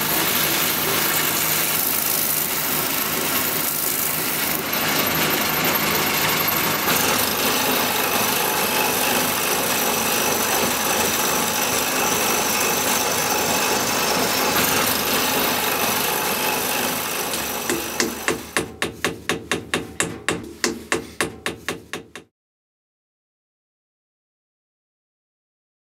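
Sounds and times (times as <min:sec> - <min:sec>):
chisel scraping spinning wood: 0:00.0 - 0:22.2.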